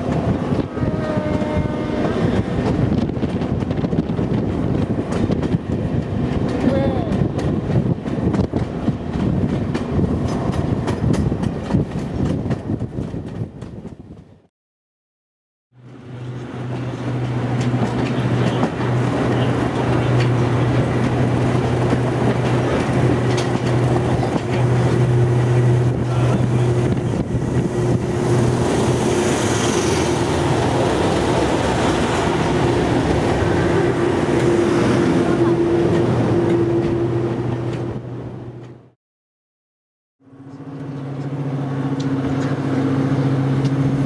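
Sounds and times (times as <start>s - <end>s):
diesel locomotive engine: 0.0s - 14.5s, 15.7s - 39.0s, 40.2s - 44.0s
diesel train engine drone: 0.0s - 14.5s, 15.7s - 39.0s, 40.2s - 44.0s
rail noise: 0.0s - 14.5s, 15.8s - 39.0s, 40.2s - 44.0s.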